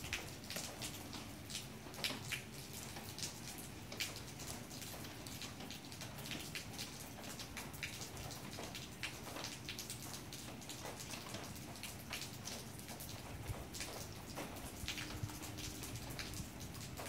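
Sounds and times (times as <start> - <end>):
light rain dripping: 0.0 - 17.0.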